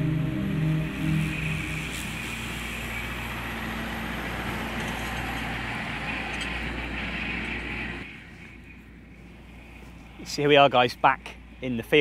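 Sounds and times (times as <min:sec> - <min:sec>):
quiet outdoor background: 0:00.0 - 0:12.0
tractor engine and mower hum: 0:00.0 - 0:12.0.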